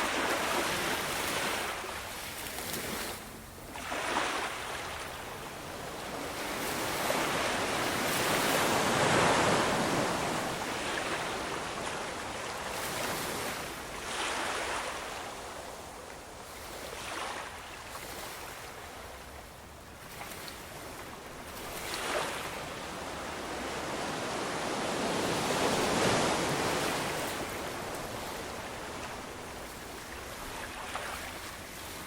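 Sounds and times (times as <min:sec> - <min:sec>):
waves breaking on shore: 0:00.0 - 0:32.0.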